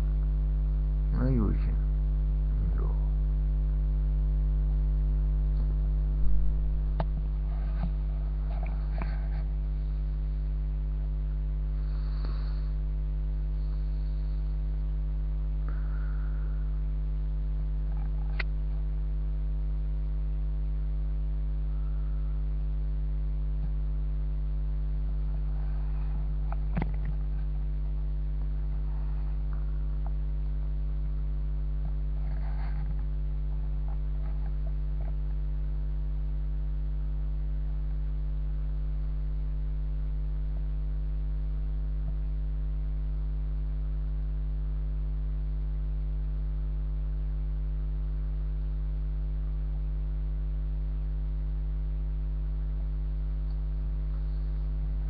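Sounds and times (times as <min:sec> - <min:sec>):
mains hum: 0:00.0 - 0:55.0.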